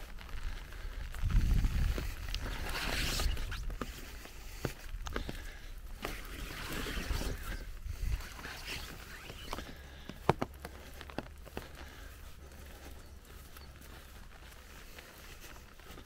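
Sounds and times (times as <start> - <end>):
footsteps through wet grass and mud: 0.0 - 16.0
rustling: 0.0 - 16.0.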